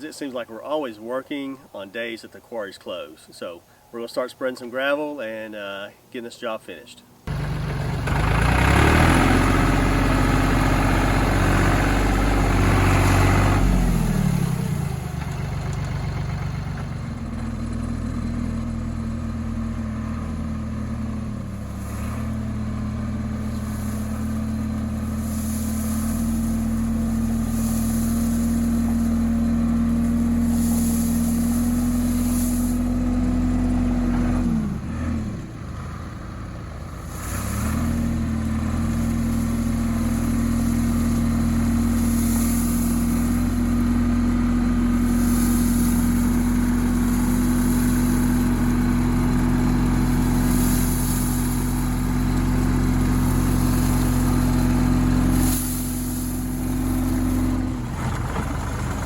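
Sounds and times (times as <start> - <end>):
tractor engine running: 7.3 - 59.0.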